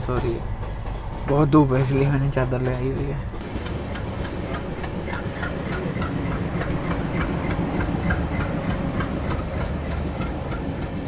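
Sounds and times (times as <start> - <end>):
low rumble of moving train: 0.0 - 11.0
train wheels clattering over rail joints: 0.0 - 11.0.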